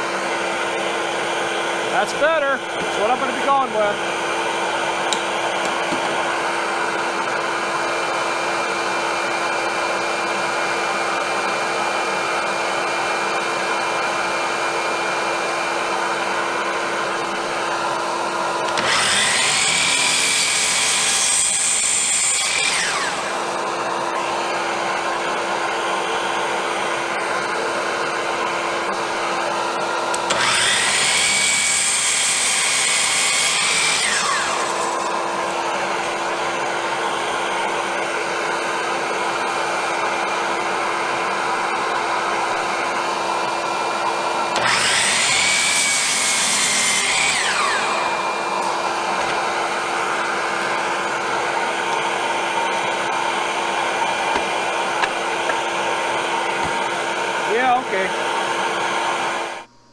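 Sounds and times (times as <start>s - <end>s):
miter saw motor whine: 0.1s - 59.9s.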